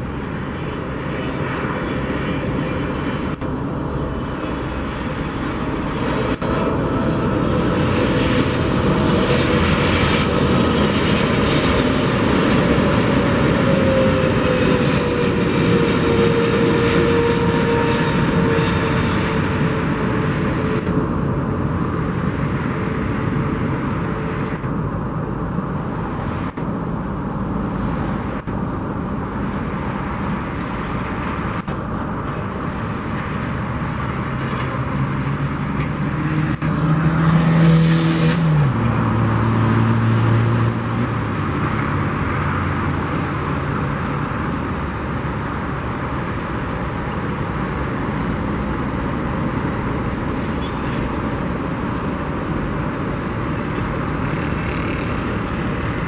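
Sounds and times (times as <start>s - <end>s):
airliner touching down: 0.0s - 56.0s
jet engines roaring with whine: 0.0s - 56.0s.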